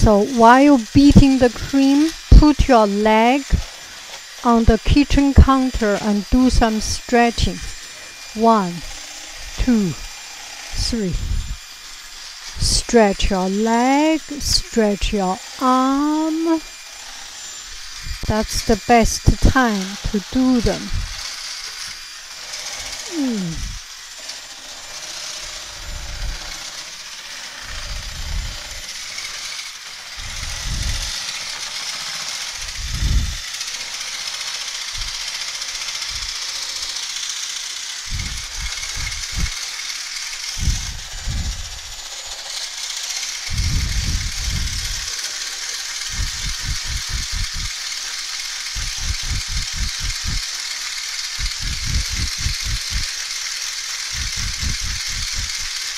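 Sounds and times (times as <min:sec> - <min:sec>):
mixer whirring: 0:00.0 - 0:55.9.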